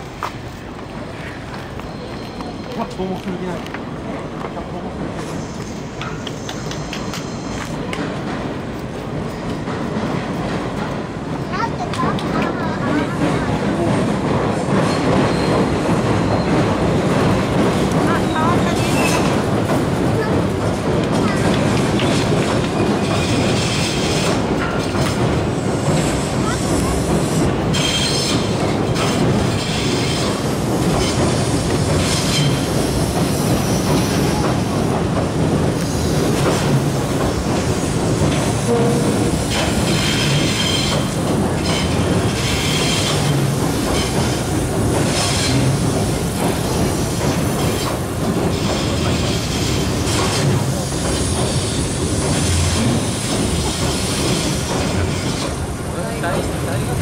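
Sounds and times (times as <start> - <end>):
clickety-clack over rail joints: 0.0 - 57.0
train wheels rumbling on rail: 0.0 - 57.0.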